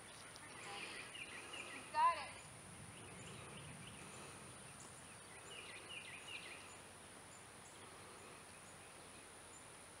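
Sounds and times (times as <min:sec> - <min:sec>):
bird chirping: 0:00.0 - 0:09.8.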